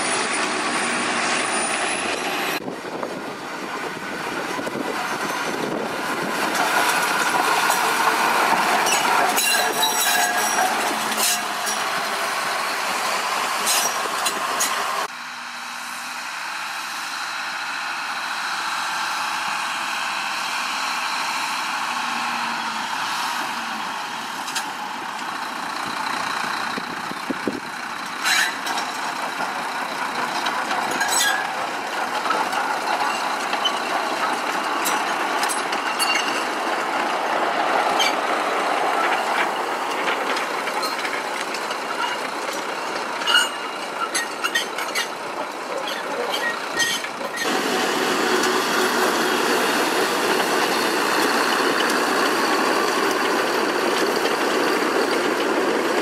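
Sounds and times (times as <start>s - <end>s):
train rattling on track: 0.0s - 15.2s, 17.0s - 56.0s.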